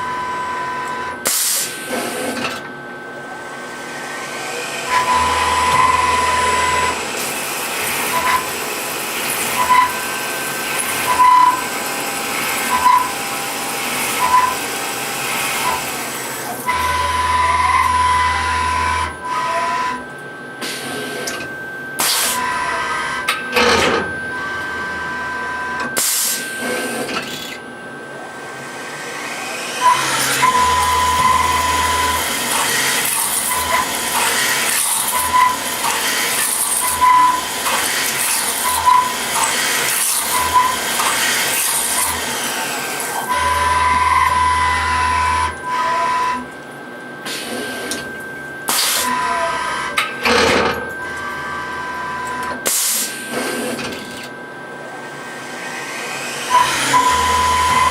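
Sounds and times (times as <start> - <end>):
cnc milling machine motors whining: 0.0 - 57.9.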